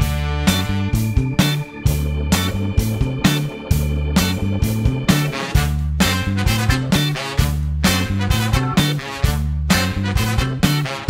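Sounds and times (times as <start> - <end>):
upbeat music with bass line: 0.0 - 11.0.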